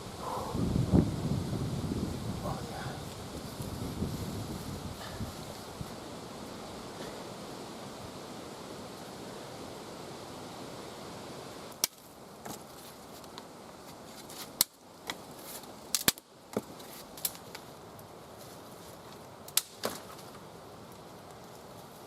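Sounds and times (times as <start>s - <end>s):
windy hiss: 0.0s - 22.0s.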